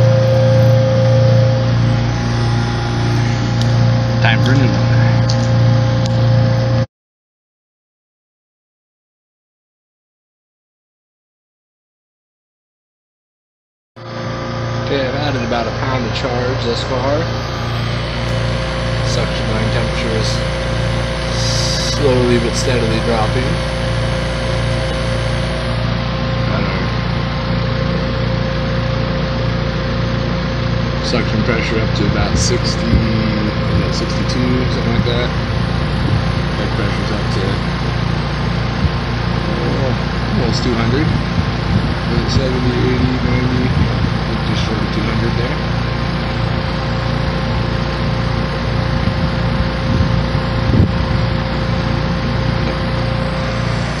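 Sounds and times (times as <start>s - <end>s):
condenser fan whirring: 0.0s - 6.9s, 14.0s - 54.0s
heat pump humming: 0.0s - 6.9s, 14.0s - 54.0s.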